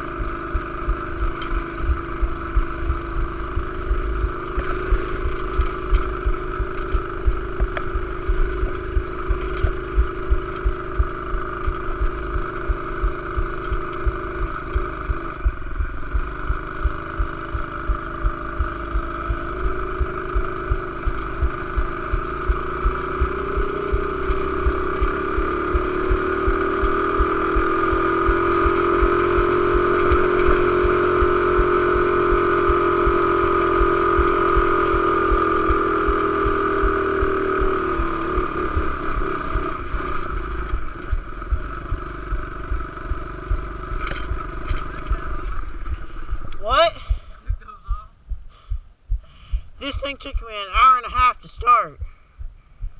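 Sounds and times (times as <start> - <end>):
pit bike engine running: 0.0 - 52.9.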